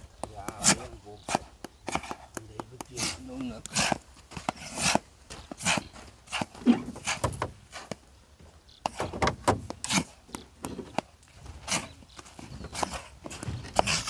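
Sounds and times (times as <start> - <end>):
footsteps crunching on sandy ground: 0.0 - 14.0.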